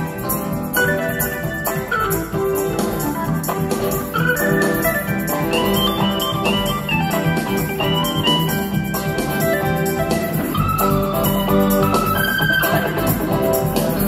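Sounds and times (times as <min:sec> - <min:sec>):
live rock band instrumental: 0:00.0 - 0:14.0.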